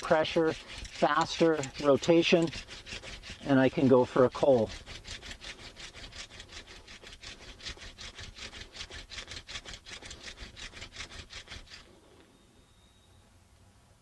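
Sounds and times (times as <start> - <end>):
wood-on-wood rasping of hand drill: 0.0 - 12.3.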